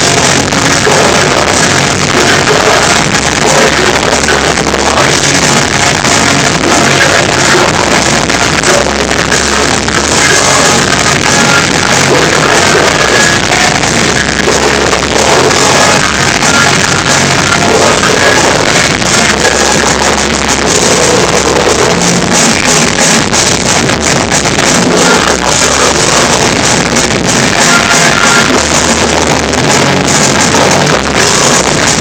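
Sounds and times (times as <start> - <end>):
live band with distorted guitars: 0.0 - 32.0.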